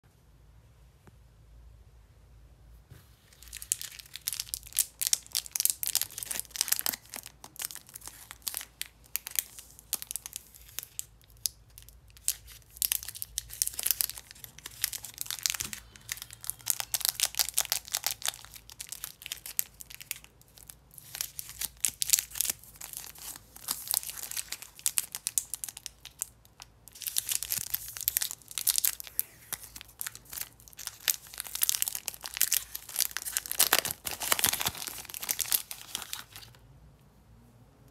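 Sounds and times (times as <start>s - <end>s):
plastic wrappers crinkling: 3.3s - 36.6s.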